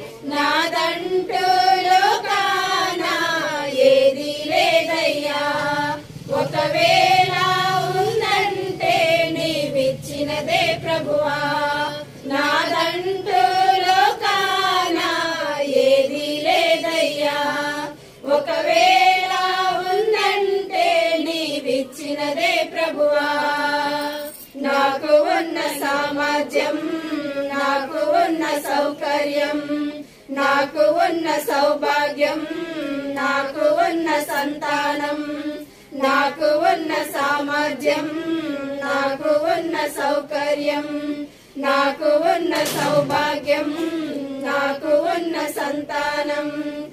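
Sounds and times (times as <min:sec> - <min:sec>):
women singing a hymn: 0:00.0 - 0:46.9.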